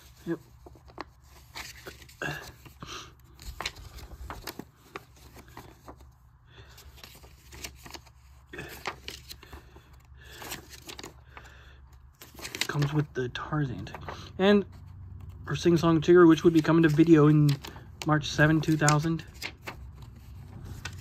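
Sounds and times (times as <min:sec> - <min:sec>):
paper rustling: 0:00.0 - 0:13.1, 0:13.7 - 0:21.0.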